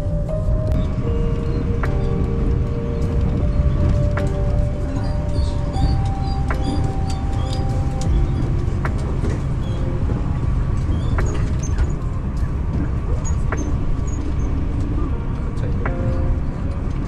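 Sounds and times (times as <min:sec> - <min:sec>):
faint steady tones: 0:00.0 - 0:17.0
train wheels rumbling on rails: 0:00.0 - 0:17.0.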